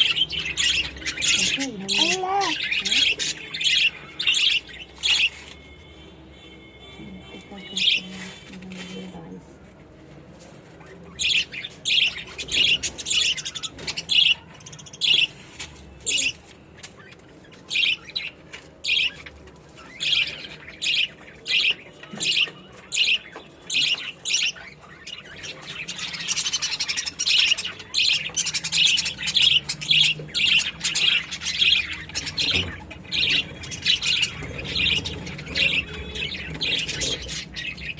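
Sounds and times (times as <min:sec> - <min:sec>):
budgerigars chirping: 0:00.0 - 0:06.5, 0:10.9 - 0:37.9.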